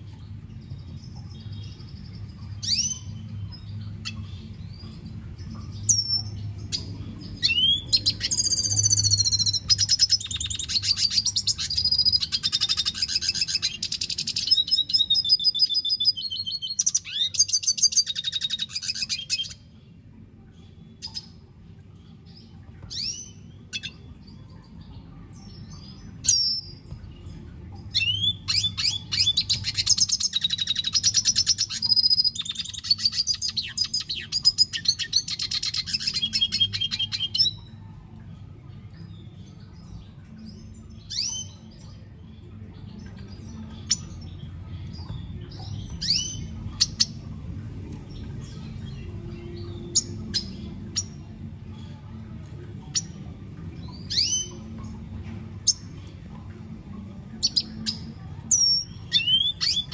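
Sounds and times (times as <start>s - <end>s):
bird twittering and trilling: 0.0s - 59.9s.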